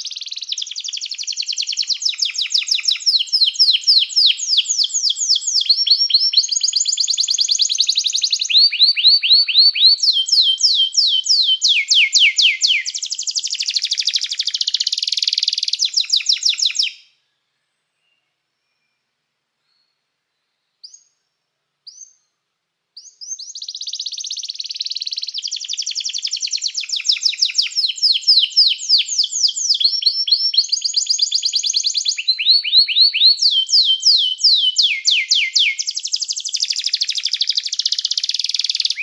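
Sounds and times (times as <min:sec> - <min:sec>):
canary singing: 0:00.0 - 0:17.1, 0:23.0 - 0:39.0.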